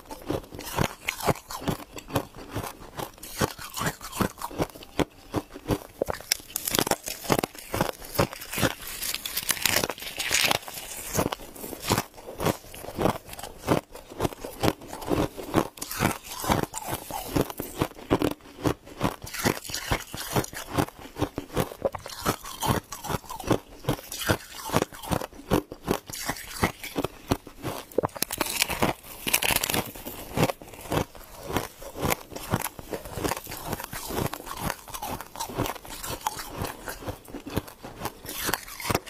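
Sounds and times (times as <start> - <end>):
frost being chewed: 0.0 - 39.0.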